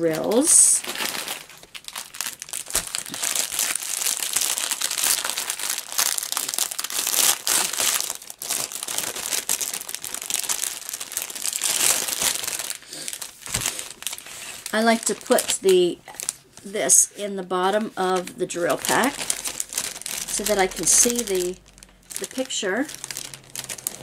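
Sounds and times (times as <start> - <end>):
plastic wrapping crinkling: 0.0 - 24.0.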